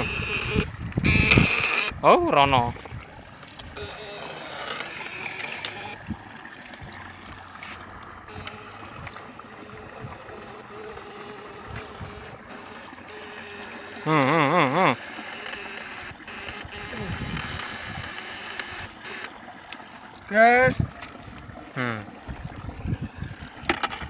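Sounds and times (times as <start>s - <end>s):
water stirring and lapping: 0.0s - 24.0s.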